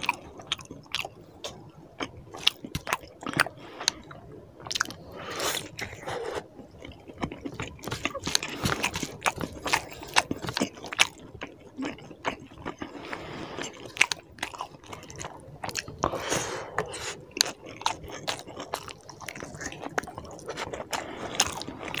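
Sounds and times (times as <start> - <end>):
wet chewing and lip smacking: 0.0 - 22.0.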